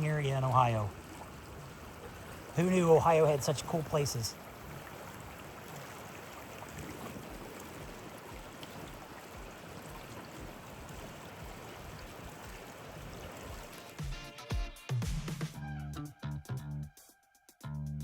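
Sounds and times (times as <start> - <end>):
creek water rushing: 0.0 - 14.5.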